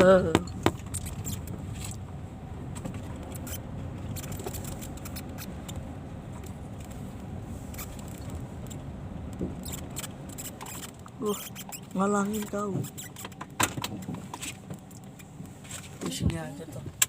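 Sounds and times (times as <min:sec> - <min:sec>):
car cabin road rumble: 0:00.0 - 0:17.0
light clicks and rattles: 0:02.7 - 0:07.1, 0:07.7 - 0:17.0.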